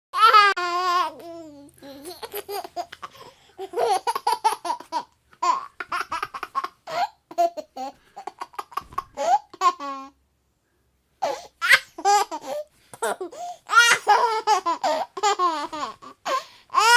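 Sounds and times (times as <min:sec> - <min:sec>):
baby laughing: 0:00.2 - 0:10.2, 0:11.2 - 0:16.9.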